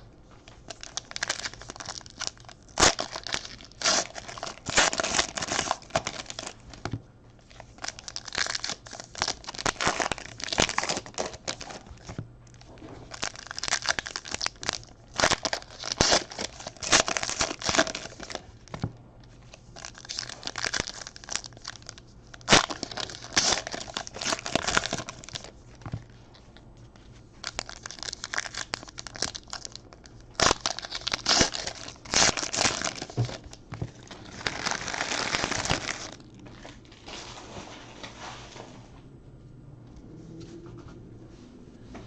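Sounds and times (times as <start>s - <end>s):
wrappers torn and crumpled: 0.7s - 26.2s, 27.4s - 37.4s.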